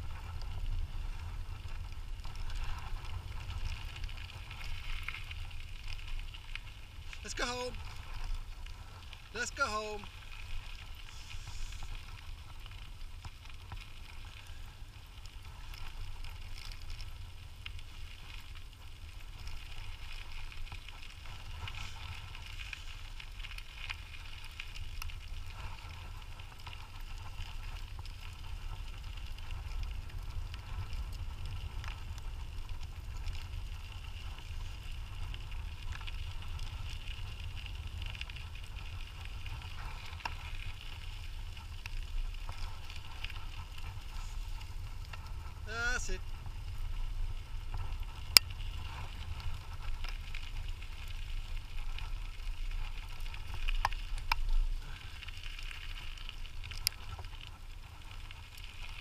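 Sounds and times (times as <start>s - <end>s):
scooter wheels crackling on ground: 0.0s - 59.0s
wind rumble on microphone: 0.0s - 59.0s.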